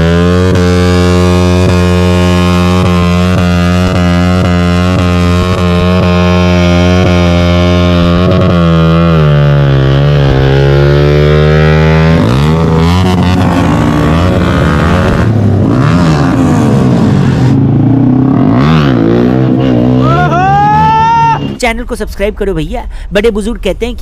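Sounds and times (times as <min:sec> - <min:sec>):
motorcycle engine revving: 0:00.0 - 0:21.6.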